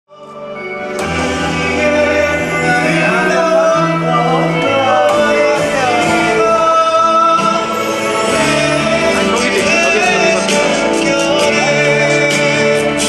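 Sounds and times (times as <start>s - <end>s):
song with singing voice: 0.1s - 13.0s
sustained bass notes: 0.2s - 13.0s.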